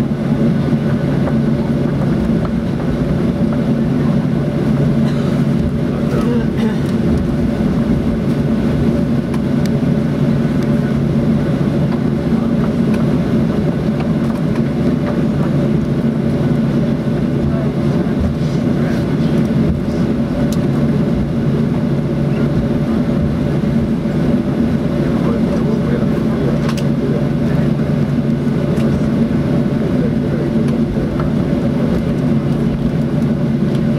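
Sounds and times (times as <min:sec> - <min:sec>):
airplane cabin engine drone: 0:00.0 - 0:33.9.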